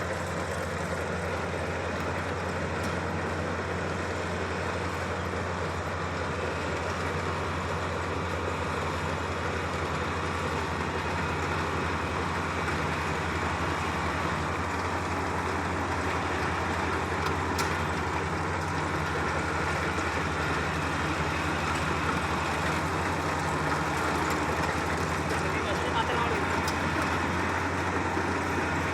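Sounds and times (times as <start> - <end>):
combine harvester engine running: 0.0 - 28.9.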